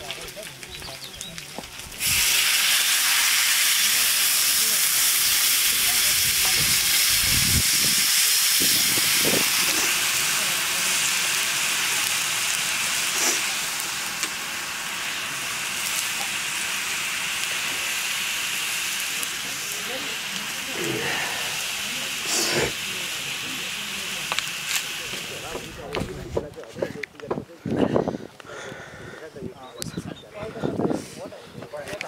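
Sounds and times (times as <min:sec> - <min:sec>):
liquid sizzling in hot wok: 0:00.0 - 0:26.0.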